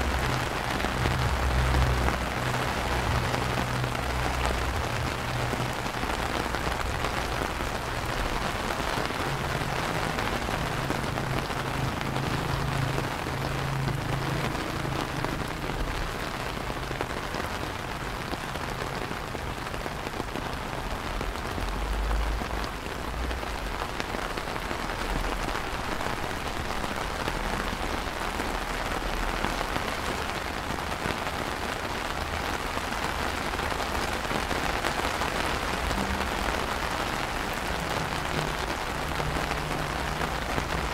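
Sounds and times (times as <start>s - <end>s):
rain on stone paving: 0.0s - 40.9s.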